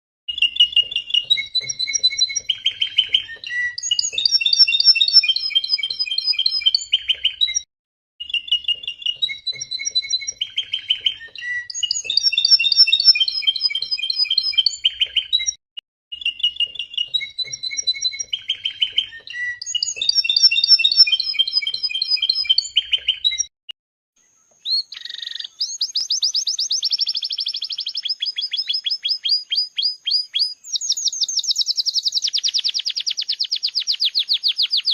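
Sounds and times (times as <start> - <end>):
canary singing: 0.3 - 23.5, 24.2 - 34.9.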